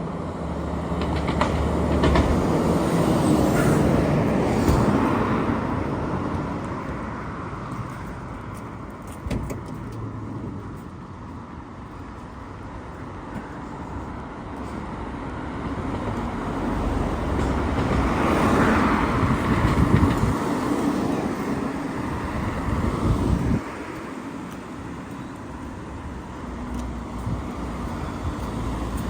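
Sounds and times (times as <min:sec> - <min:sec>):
background traffic: 0:00.0 - 0:29.0.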